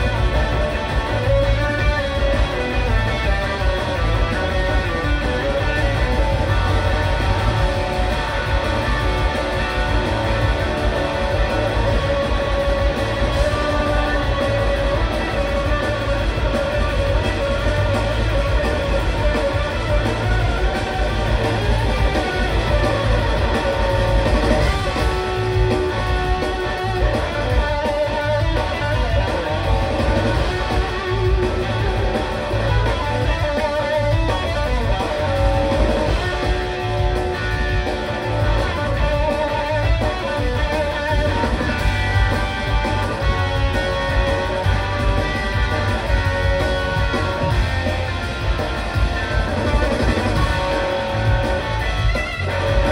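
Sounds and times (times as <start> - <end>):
electric guitar: 0.0 - 52.9
live blues-rock band: 0.0 - 52.9.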